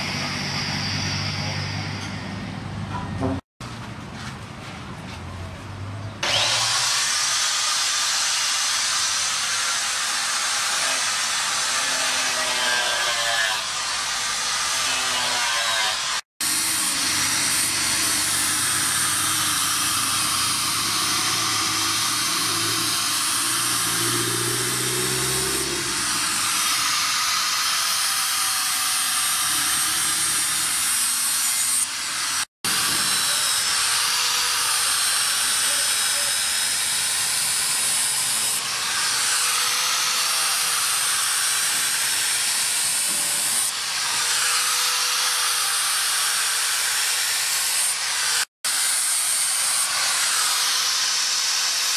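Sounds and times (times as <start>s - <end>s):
angle grinder grinding metal: 6.2s - 51.9s.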